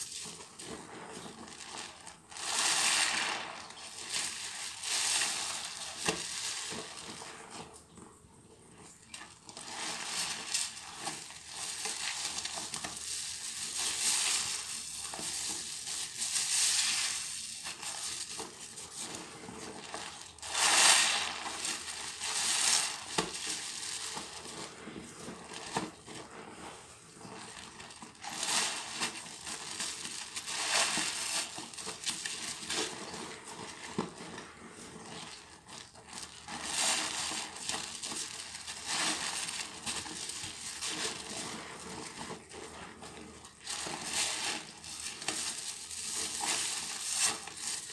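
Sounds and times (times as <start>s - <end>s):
sponge squishing in suds: 0.0s - 8.1s, 8.7s - 47.9s.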